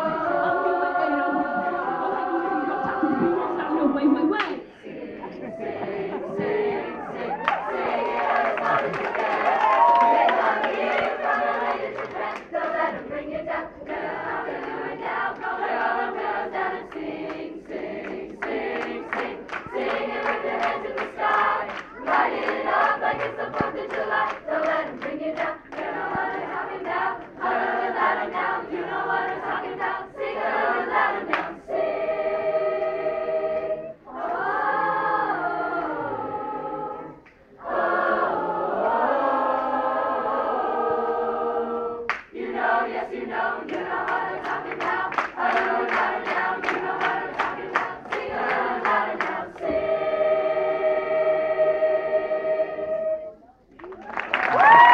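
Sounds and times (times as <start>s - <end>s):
choir singing in harmony: 0.0s - 53.5s.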